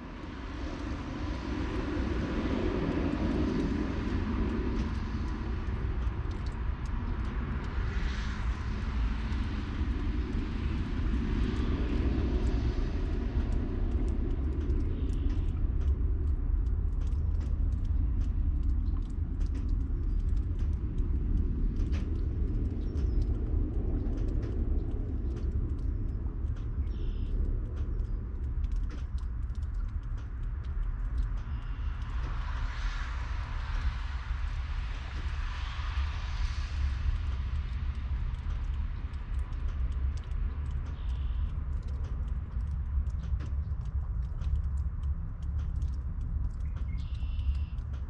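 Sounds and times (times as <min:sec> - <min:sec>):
wind rumbling on microphone: 0:00.0 - 0:48.0
light ticks: 0:00.1 - 0:48.0.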